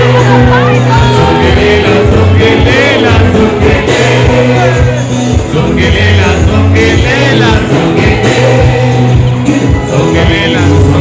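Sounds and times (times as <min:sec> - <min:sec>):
live band music: 0:00.0 - 0:11.0
person singing: 0:00.0 - 0:11.0
strong steady bass: 0:00.0 - 0:11.0.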